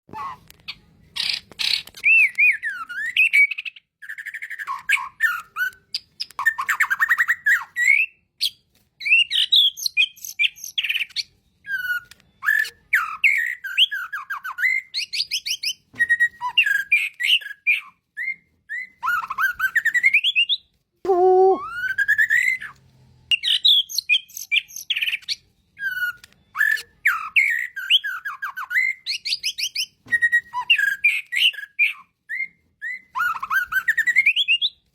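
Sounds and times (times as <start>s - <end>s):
songbird singing whistles and trills: 0.1s - 34.9s.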